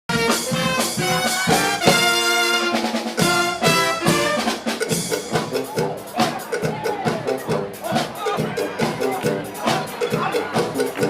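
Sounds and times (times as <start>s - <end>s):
brass band playing: 0.1s - 11.0s
drums: 0.1s - 11.0s.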